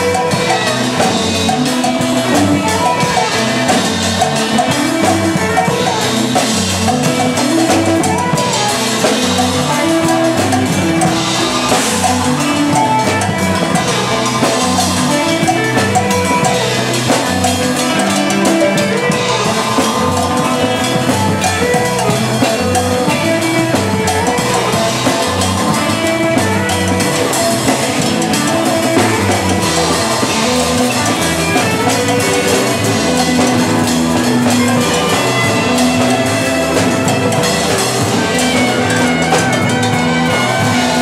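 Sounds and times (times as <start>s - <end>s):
bass guitar: 0.0s - 41.0s
cymbals and drums bashing: 0.0s - 41.0s
drum kit: 0.0s - 41.0s
electric guitars: 0.0s - 41.0s.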